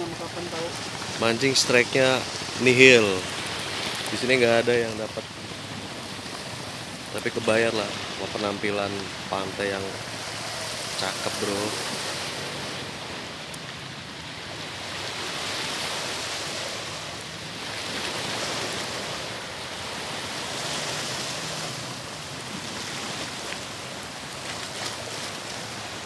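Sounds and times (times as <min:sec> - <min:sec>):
small waves washing onto shore: 0:00.0 - 0:26.0.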